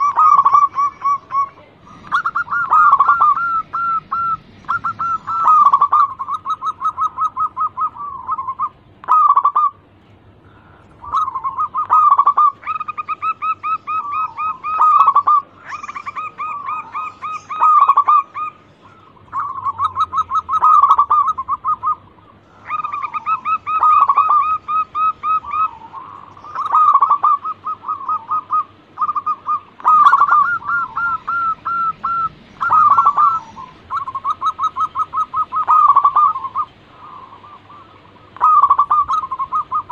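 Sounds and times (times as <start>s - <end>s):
dove cooing: 0.0s - 9.8s, 10.4s - 39.9s.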